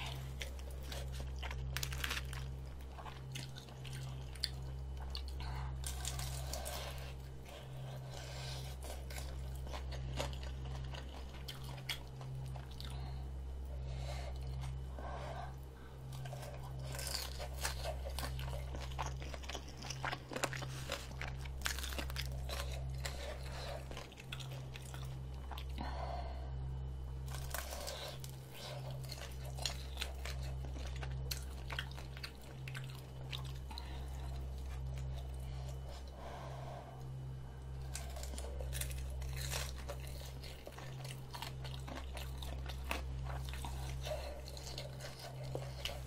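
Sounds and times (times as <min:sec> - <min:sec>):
crunching on crisp food: 0:00.0 - 0:25.9, 0:26.9 - 0:36.6, 0:37.5 - 0:46.0
steady low hum: 0:00.0 - 0:46.0.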